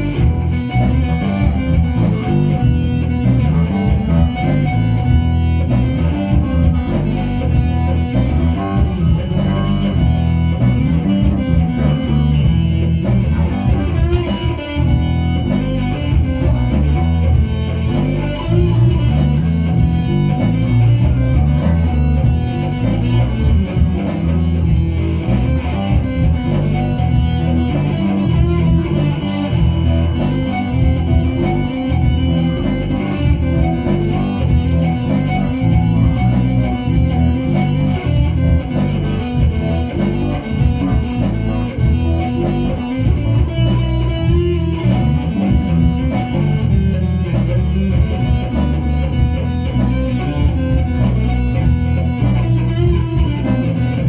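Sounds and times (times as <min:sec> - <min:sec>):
electric and bass guitar riff: 0:00.0 - 0:54.0.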